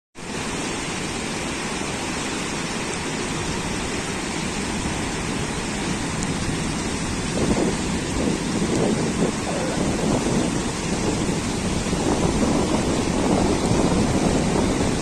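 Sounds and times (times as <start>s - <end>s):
river rushing: 0.2s - 15.0s.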